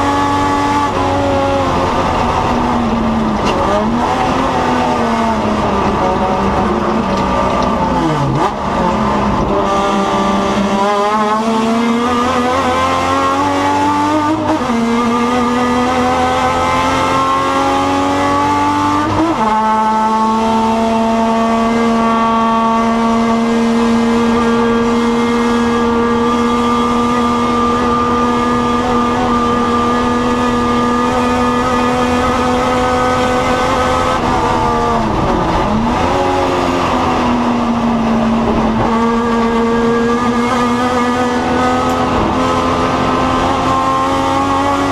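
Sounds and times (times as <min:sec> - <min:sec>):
racing car engine accelerating: 0:00.0 - 0:44.9.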